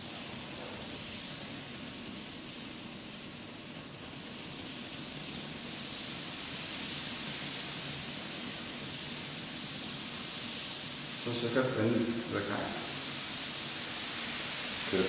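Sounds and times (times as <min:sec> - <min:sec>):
hiss of escaping gas: 0:00.0 - 0:15.0.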